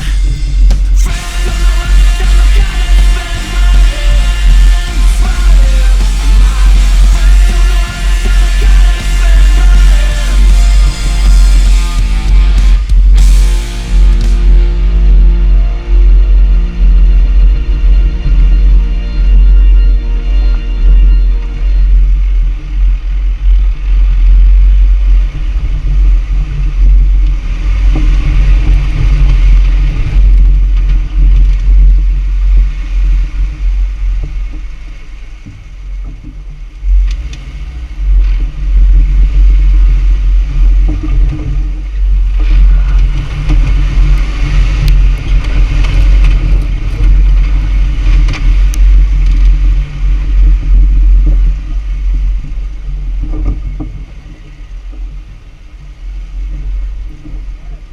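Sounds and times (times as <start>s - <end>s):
off-road vehicle rumbling: 0.0s - 57.9s.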